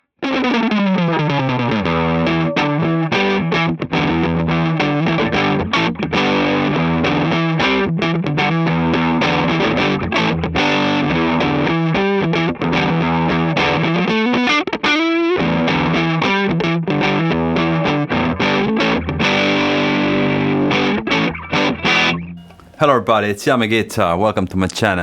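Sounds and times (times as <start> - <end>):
distorted electric guitar lead: 0.2 - 22.8.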